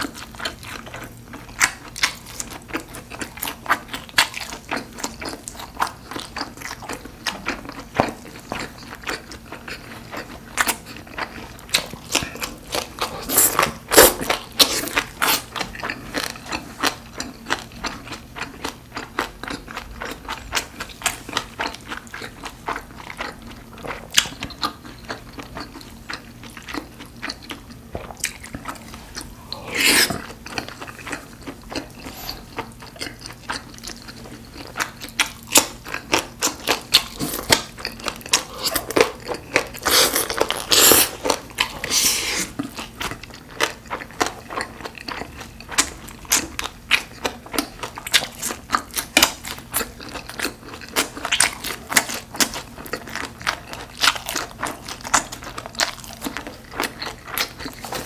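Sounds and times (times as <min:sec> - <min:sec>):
close chewing with wet mouth clicks: 0:00.0 - 0:58.0.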